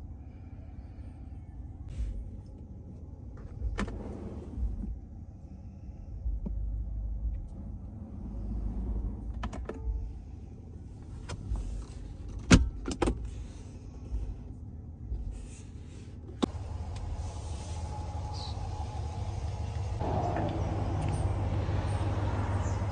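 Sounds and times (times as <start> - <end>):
low steady rumble: 0.0 - 22.9.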